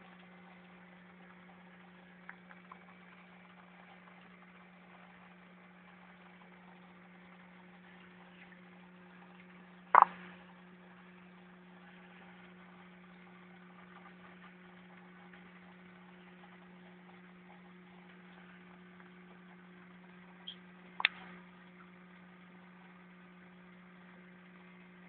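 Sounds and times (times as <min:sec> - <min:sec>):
aquarium equipment humming: 0:00.0 - 0:25.0.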